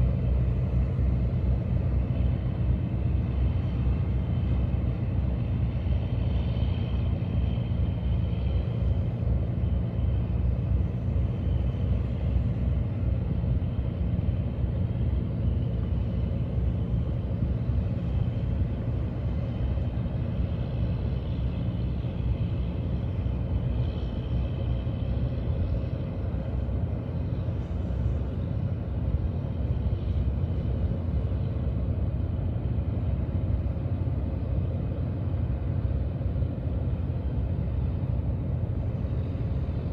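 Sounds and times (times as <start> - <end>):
boat engines rumbling: 0.0 - 39.9.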